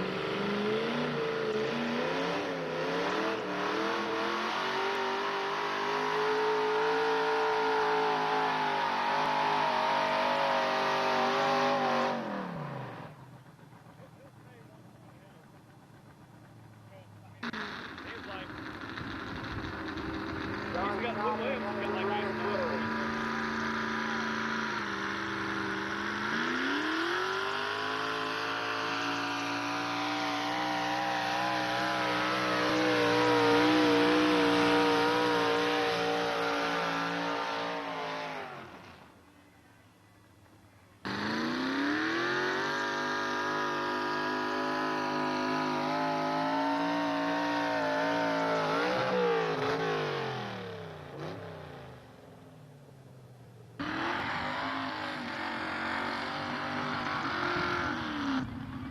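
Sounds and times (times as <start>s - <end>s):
truck engine revving: 0.0s - 39.2s, 41.0s - 52.4s, 53.8s - 58.9s.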